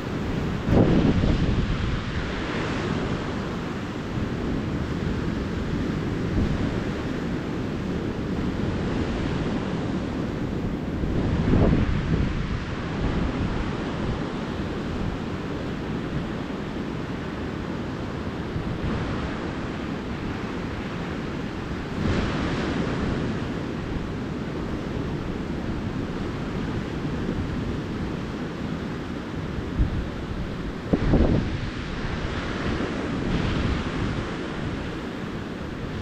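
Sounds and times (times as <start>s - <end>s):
ocean surf washing onto beach: 0.0s - 36.0s.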